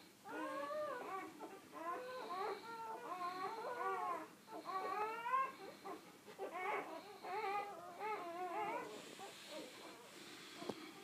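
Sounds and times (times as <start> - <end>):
puppies squealing and whining: 0.2 - 10.4.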